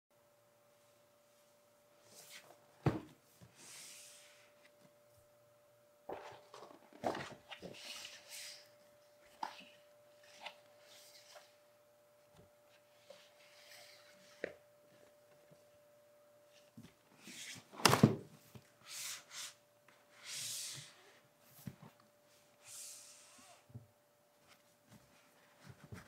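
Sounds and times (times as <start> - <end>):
faint steady hum: 0.1 - 26.0.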